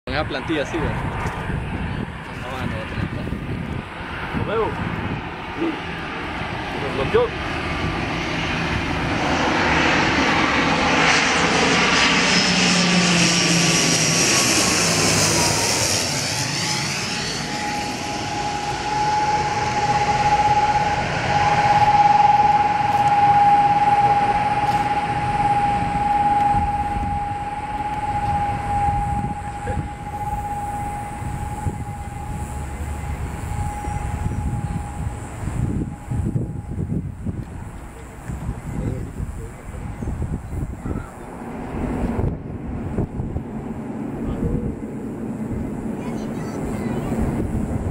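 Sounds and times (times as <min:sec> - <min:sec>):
high engine whine: 0:00.1 - 0:47.9
turboprop airliner passing overhead: 0:00.1 - 0:47.9.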